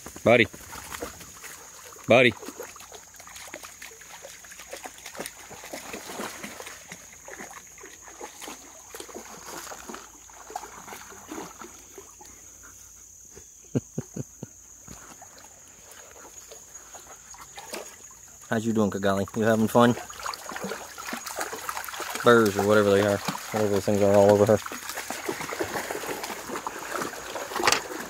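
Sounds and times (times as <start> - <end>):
dogs sloshing through water: 0.2 - 13.6, 14.7 - 28.0.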